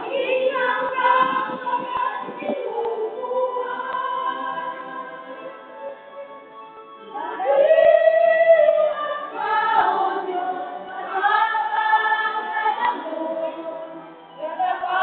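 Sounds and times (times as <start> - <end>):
women's choir singing: 0.0 - 5.6, 7.1 - 15.0.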